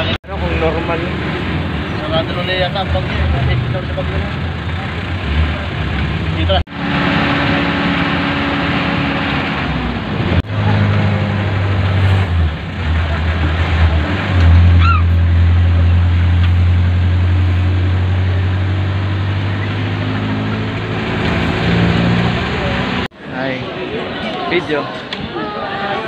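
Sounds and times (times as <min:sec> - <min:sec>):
vehicle engine running: 0:00.0 - 0:23.1
road noise: 0:00.0 - 0:26.0.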